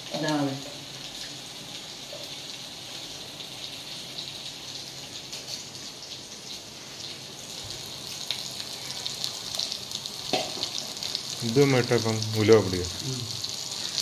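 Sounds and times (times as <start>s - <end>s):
oil sizzling with frying vegetables: 0.0s - 14.0s.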